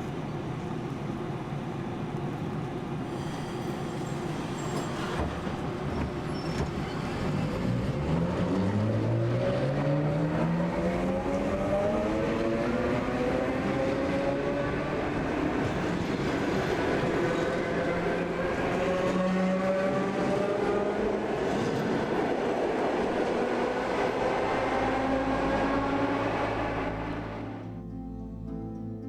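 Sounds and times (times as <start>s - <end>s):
train wheels rumbling on rails: 0.0s - 27.5s.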